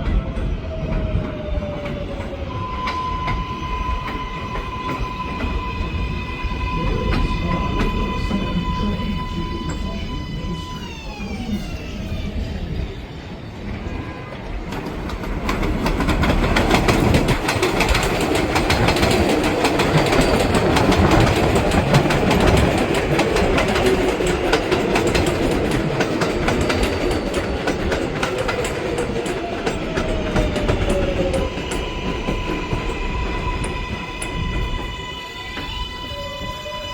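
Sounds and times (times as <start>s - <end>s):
train wheels clattering over rails: 0.0s - 10.0s, 13.7s - 35.8s.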